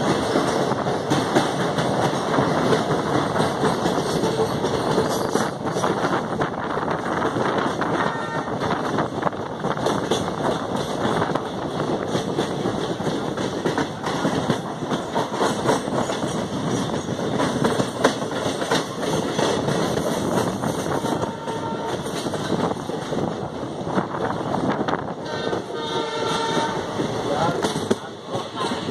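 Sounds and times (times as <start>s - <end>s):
rattling clatter over track: 0.0s - 28.9s
train wheels rumbling on rails: 0.0s - 28.9s.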